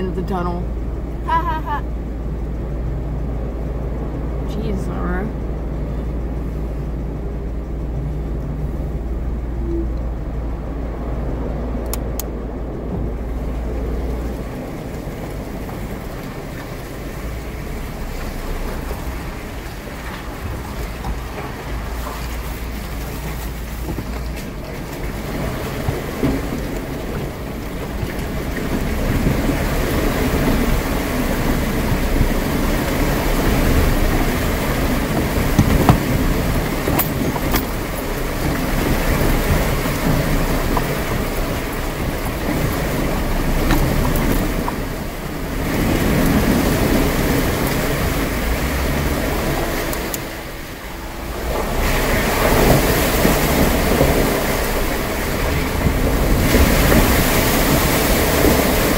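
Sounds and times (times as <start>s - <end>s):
car engine rumble: 0.0s - 58.9s
tyres splashing through water: 0.0s - 58.9s.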